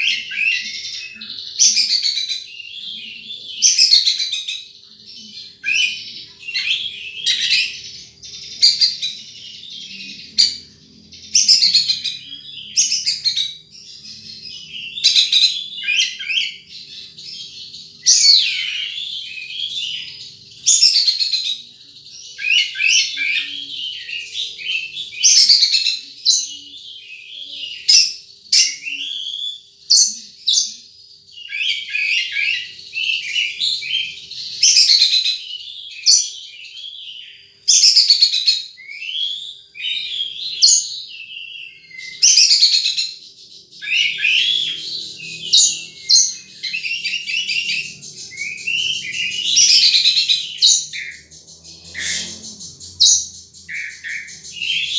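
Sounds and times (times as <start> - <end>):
bird chirps and twitters: 0.0 - 54.9.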